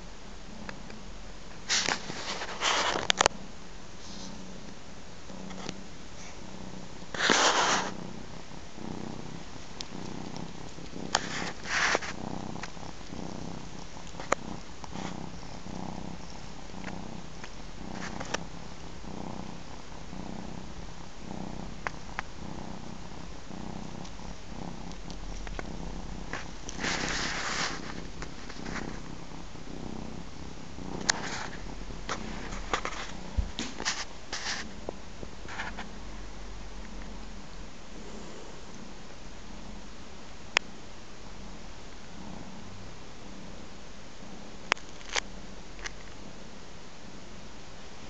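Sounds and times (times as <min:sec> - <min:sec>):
cats purring: 0:00.0 - 0:48.0.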